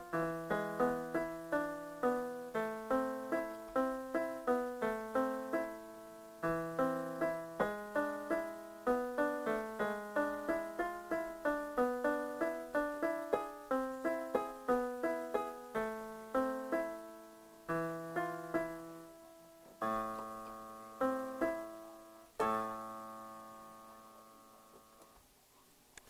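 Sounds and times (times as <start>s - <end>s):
electronic piano nocturne: 0.0s - 25.2s.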